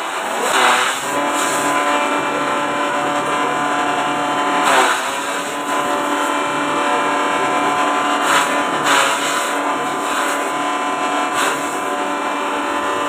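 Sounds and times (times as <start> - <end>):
grass being chopped: 0.0 - 12.7
electric motor whining: 0.0 - 13.0.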